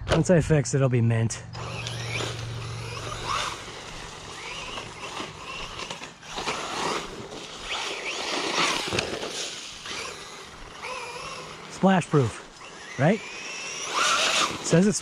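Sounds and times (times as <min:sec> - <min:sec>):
rc car motor whine: 0:01.4 - 0:15.0.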